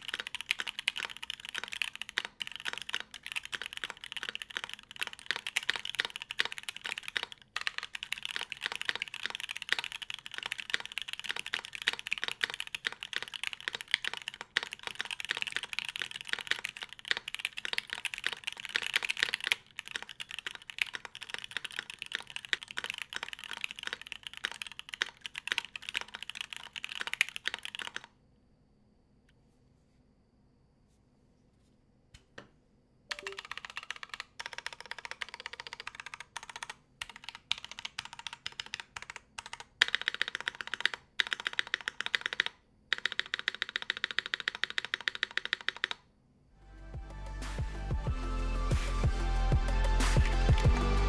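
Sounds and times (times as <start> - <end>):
mechanical keyboard typing: 0.0 - 28.1, 33.1 - 46.0.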